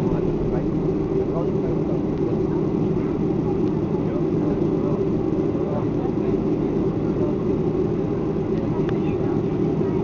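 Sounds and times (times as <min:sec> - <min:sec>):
airplane cabin engine noise: 0:00.0 - 0:10.0.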